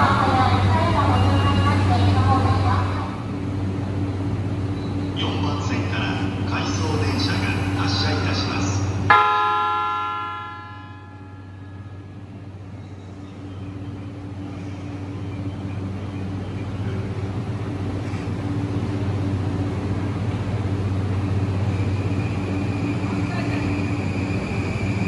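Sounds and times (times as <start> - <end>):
electric train pulling out: 0.0 - 25.0.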